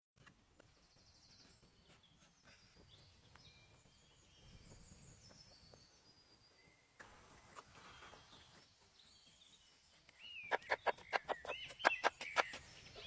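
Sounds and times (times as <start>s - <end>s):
faint birds chirping: 0.2s - 13.0s.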